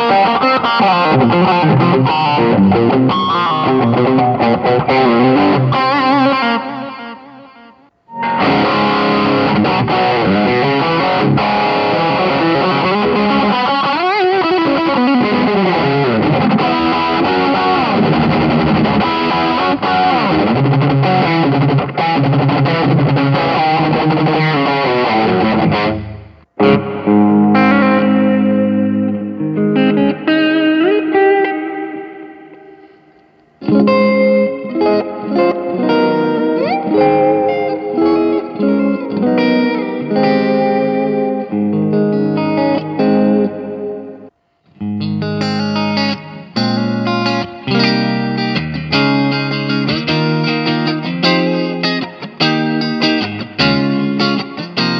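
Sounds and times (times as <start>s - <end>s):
distorted electric guitar lead: 0.0s - 54.9s.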